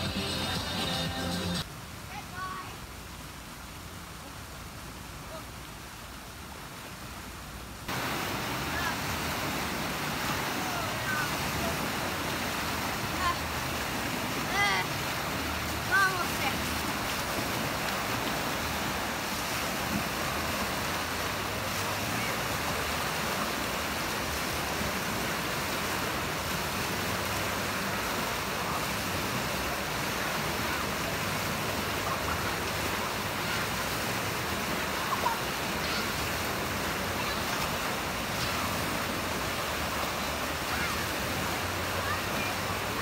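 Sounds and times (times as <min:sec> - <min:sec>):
waves breaking in shallow water: 0:02.0 - 0:43.0.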